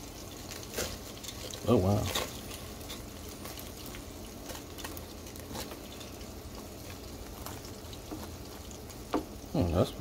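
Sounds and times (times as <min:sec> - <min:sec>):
chicken sizzling and crackling: 0:00.0 - 0:10.0.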